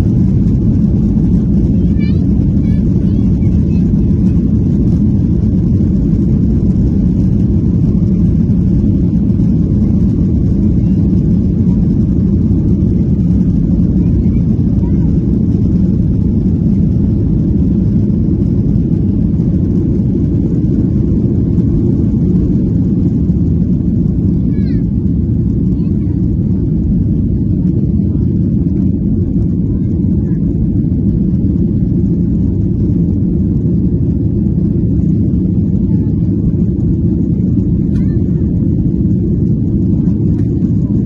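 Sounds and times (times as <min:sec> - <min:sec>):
airplane cabin low rumble: 0:00.0 - 0:41.0.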